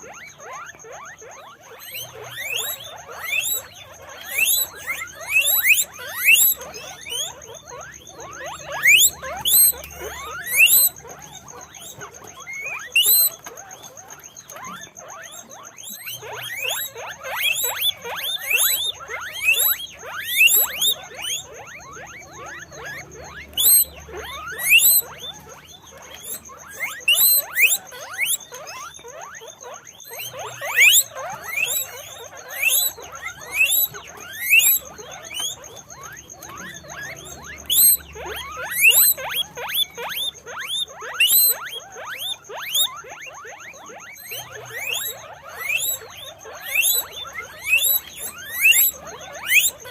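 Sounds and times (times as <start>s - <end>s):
guinea pigs squeaking: 0.0s - 49.9s.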